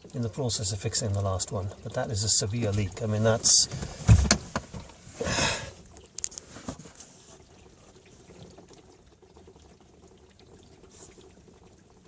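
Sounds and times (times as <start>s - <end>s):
water pouring on car roof: 0.0s - 12.0s.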